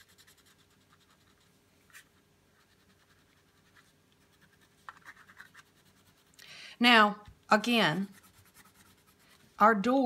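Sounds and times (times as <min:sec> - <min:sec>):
crayon scratching on paper: 0:00.0 - 0:06.3, 0:07.8 - 0:09.6.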